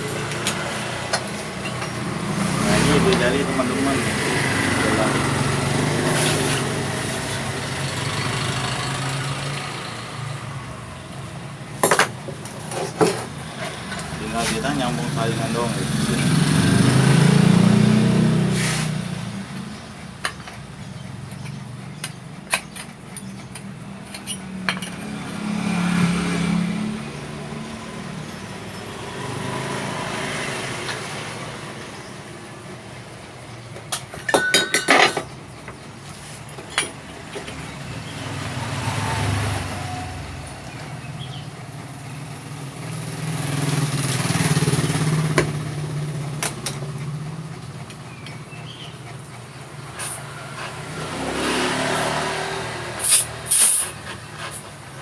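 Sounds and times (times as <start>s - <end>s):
motorbike engines revving: 0.0s - 55.0s.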